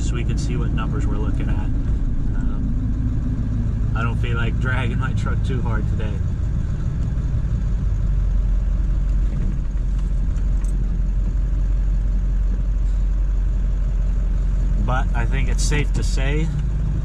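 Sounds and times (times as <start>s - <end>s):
diesel engine rumble inside cab: 0.0s - 17.0s
road noise: 0.0s - 17.0s.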